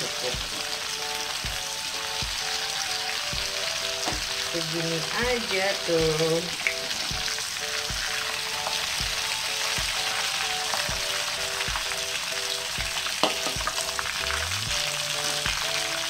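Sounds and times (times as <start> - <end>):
background music with steady beat: 0.0 - 16.0
prawns sizzling in hot oil: 0.0 - 16.0.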